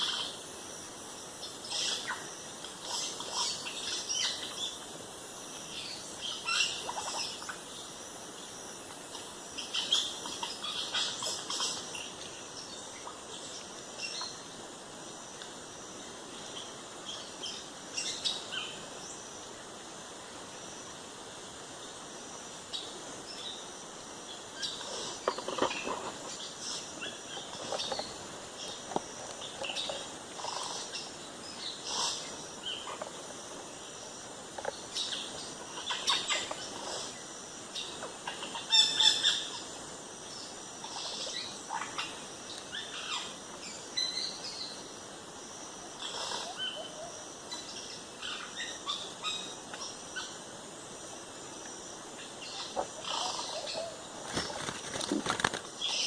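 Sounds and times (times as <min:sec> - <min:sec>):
birds calling and chirping: 0:00.0 - 0:00.5, 0:01.4 - 0:14.6, 0:22.6 - 0:44.9, 0:45.8 - 0:56.0
forest insects: 0:00.0 - 0:56.0.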